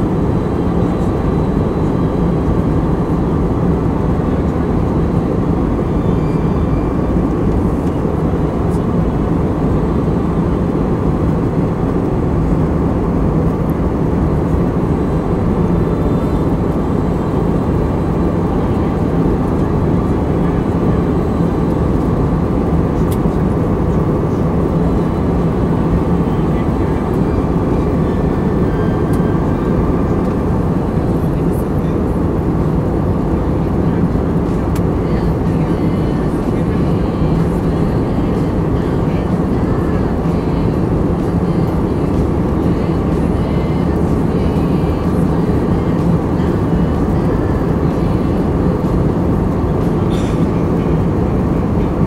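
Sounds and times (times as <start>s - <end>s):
jet cabin engine and airflow noise: 0.0s - 52.0s
low steady hum: 0.0s - 52.0s.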